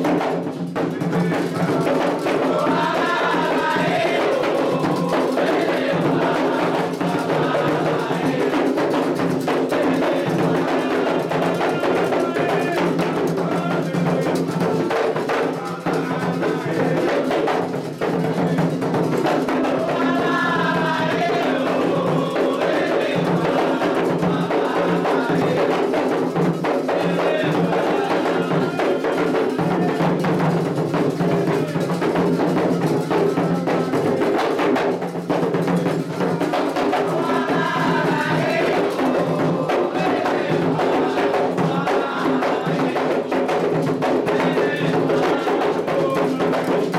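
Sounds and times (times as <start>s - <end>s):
hand drums playing driving rhythm: 0.0s - 46.9s
voices singing: 0.0s - 46.9s.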